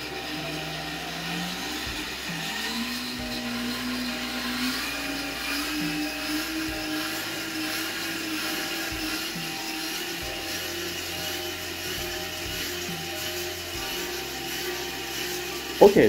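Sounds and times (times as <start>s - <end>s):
gears whirring with a whine: 0.0s - 16.0s.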